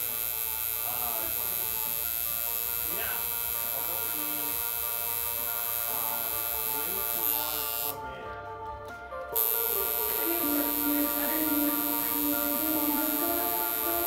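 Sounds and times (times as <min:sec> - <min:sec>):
tattoo machine buzzing: 0:00.0 - 0:08.0, 0:09.4 - 0:14.0.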